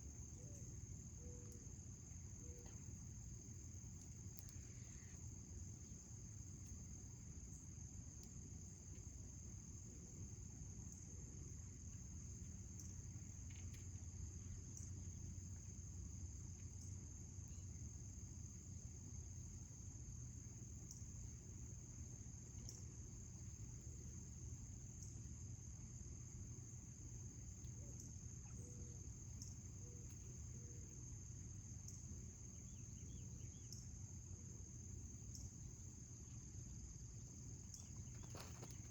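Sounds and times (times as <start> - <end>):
high-pitched insect trill: 0.0 - 38.9.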